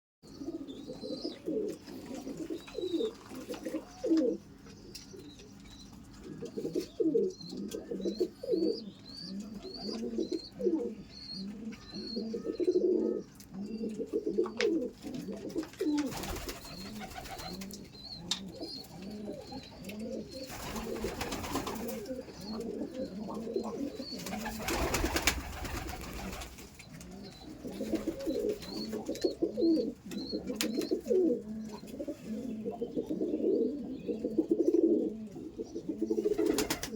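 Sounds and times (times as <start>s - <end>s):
pigeons cooing: 0.3s - 36.9s.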